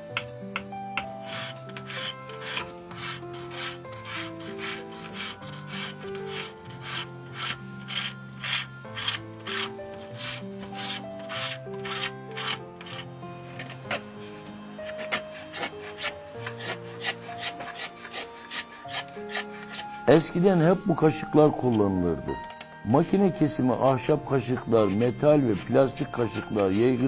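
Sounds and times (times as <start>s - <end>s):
soft background music: 0.0s - 27.0s
hand tool rasping wood: 0.6s - 27.0s.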